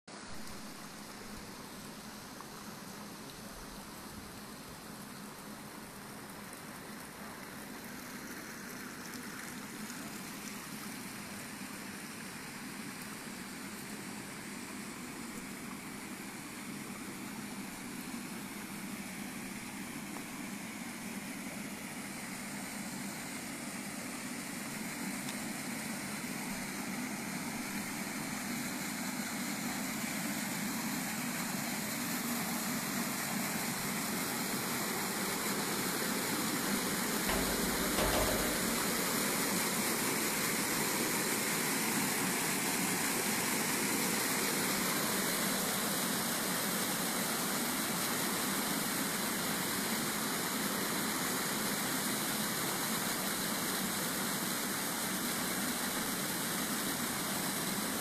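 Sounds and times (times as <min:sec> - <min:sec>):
running water rushing: 0:00.1 - 0:58.0.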